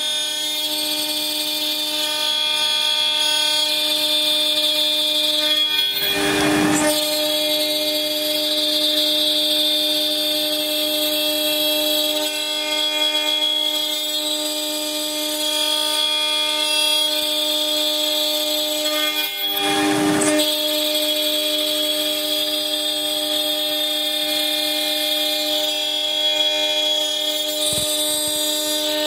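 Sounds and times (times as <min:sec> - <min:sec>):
router cutter whining in metal: 0:00.0 - 0:29.0.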